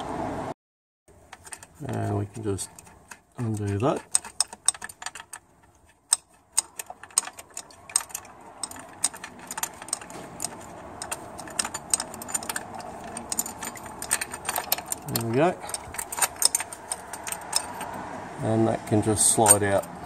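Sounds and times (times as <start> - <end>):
spanner clicking on nut: 1.2 - 18.0.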